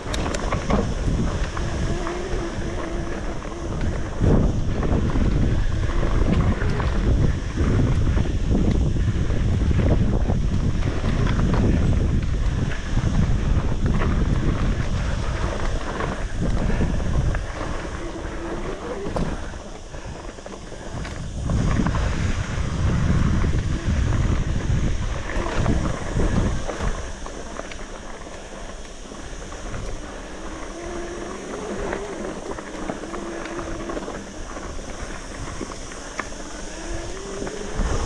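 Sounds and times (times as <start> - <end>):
faint whine: 0.0 - 38.0
wind buffeting microphone: 0.0 - 38.0.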